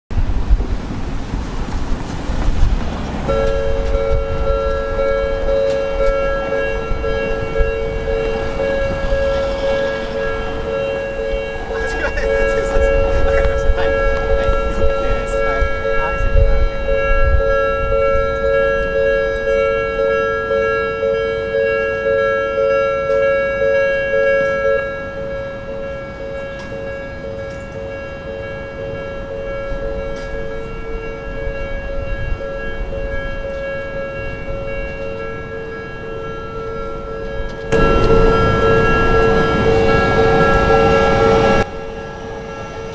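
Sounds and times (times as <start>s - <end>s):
level crossing warning bell: 3.2s - 42.9s.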